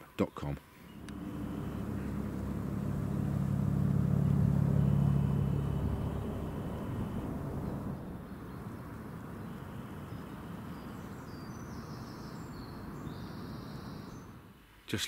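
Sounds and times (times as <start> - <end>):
low rumbling haze: 0.9 - 14.2.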